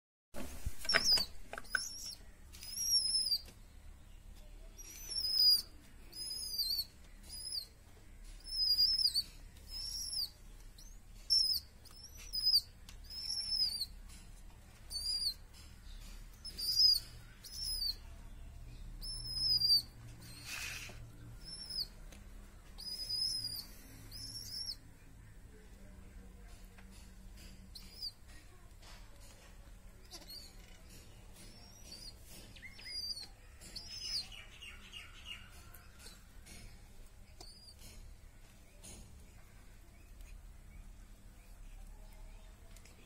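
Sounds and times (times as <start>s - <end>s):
baby pigeon begging squeaks: 0.8s - 3.6s, 4.7s - 18.2s, 18.8s - 24.9s, 26.9s - 28.5s, 29.2s - 41.0s.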